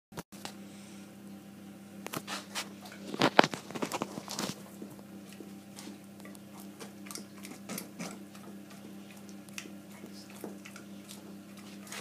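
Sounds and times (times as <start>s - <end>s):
faint steady hum: 0.4s - 12.0s.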